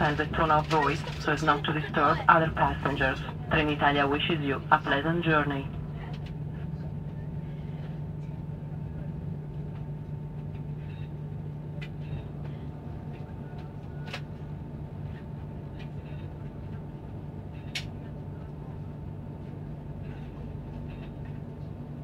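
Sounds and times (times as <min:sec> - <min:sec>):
train cabin low hum: 0:00.0 - 0:22.0.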